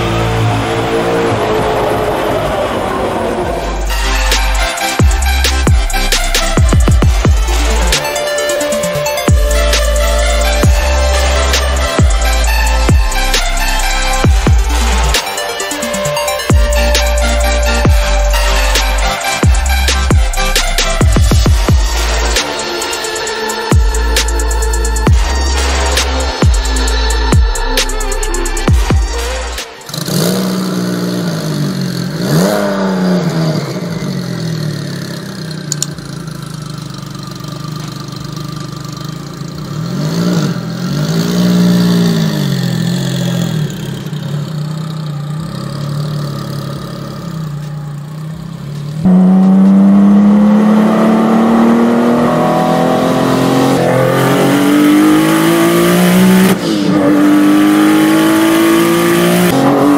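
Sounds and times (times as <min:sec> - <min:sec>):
sports car engine revving: 0:00.0 - 0:59.9.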